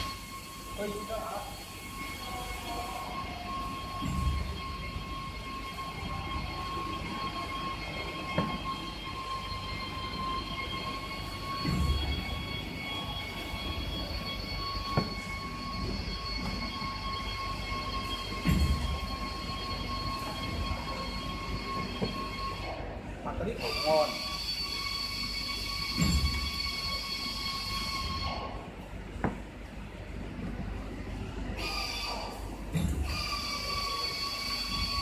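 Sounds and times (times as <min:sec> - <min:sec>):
printing machine humming: 0:00.0 - 0:35.0.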